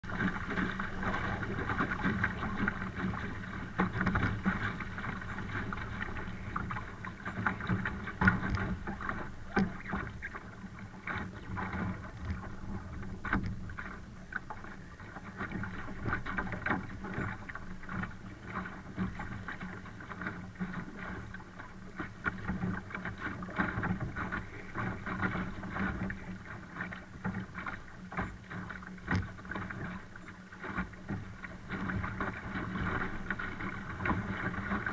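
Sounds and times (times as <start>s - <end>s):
water slapping against hull: 0.0s - 34.9s.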